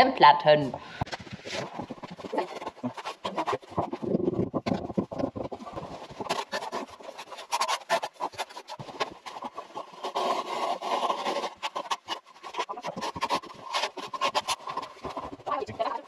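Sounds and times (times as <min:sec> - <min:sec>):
scraping and knocking of masonry blocks: 0:00.8 - 0:16.0.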